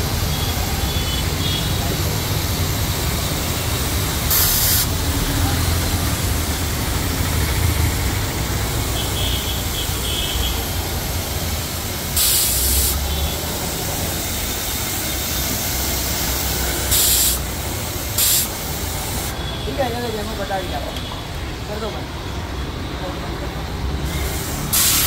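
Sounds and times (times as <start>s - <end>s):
foam spray hissing: 0.0s - 19.5s, 24.0s - 25.0s.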